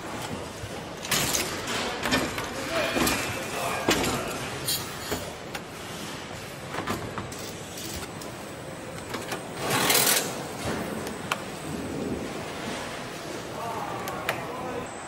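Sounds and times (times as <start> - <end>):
factory background din: 0.0 - 15.0.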